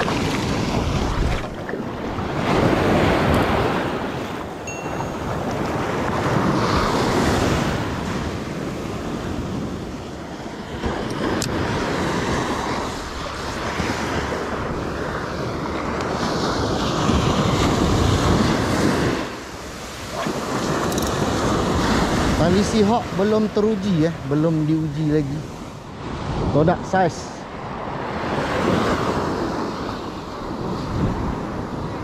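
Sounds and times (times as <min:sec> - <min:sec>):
small waves breaking: 0:00.0 - 0:32.0
wind buffeting microphone: 0:00.0 - 0:32.0.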